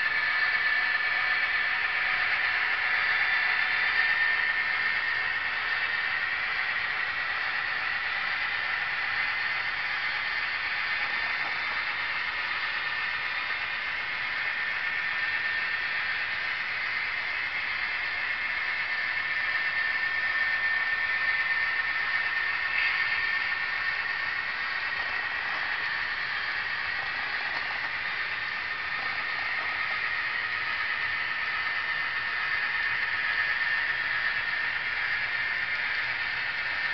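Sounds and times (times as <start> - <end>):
model train rolling on track: 0.0 - 36.9
thin steady whine: 0.0 - 36.9.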